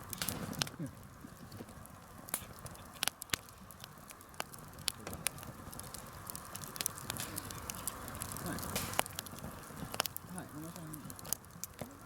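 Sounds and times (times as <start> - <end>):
burning wood popping: 0.0 - 12.0
wood fire crackling: 0.0 - 12.0.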